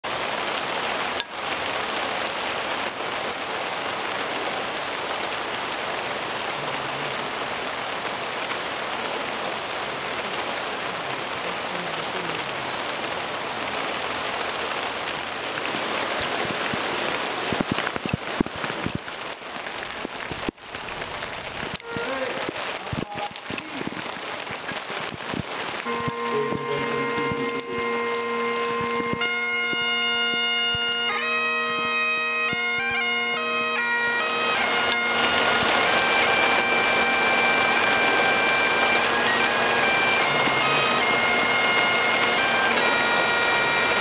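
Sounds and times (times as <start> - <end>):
rain on umbrellas and paving: 0.0 - 44.0.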